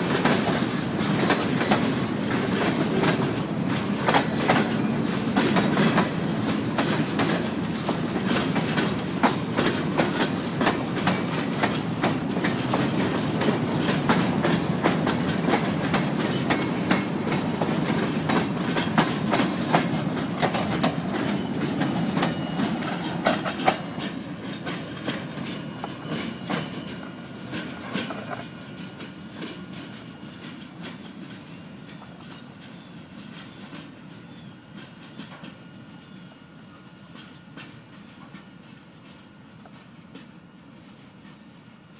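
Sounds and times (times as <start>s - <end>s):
train wheels clattering over rail joints: 0.0s - 36.2s, 37.1s - 41.9s
low train rumble: 0.0s - 41.9s.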